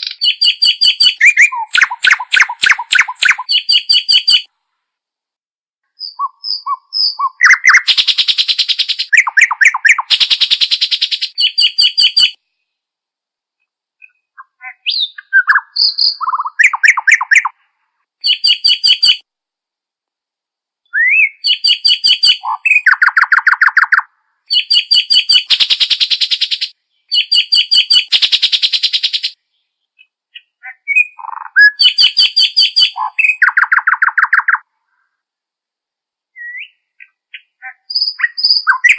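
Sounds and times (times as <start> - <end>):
songbird singing trills: 0.0 - 4.5, 5.9 - 12.4, 14.0 - 17.6, 18.2 - 19.2, 20.9 - 34.6, 36.4 - 38.9.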